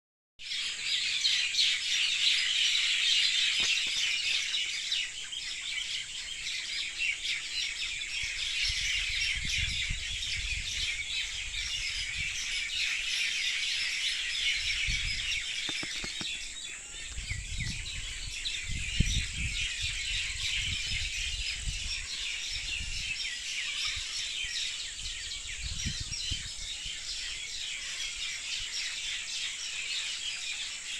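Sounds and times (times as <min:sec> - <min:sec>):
small birds chirping: 0:00.4 - 0:30.9.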